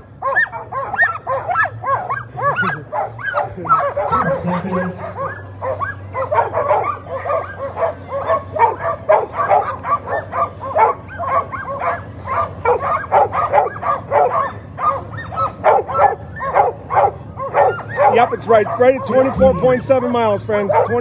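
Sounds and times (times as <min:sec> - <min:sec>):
dogs barking and yipping: 0:00.0 - 0:21.0.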